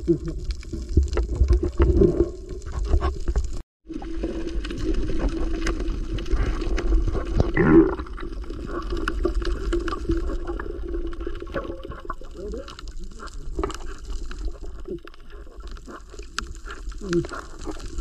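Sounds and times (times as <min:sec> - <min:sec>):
bubbly gush: 0:00.0 - 0:18.0
underwater gurgling: 0:00.0 - 0:18.0.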